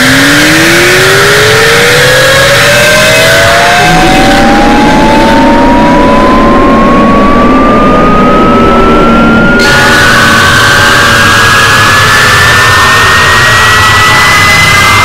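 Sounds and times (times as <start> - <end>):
harsh layered noise with hums: 0.0 - 15.0
pure tone gliding upward: 0.0 - 15.0.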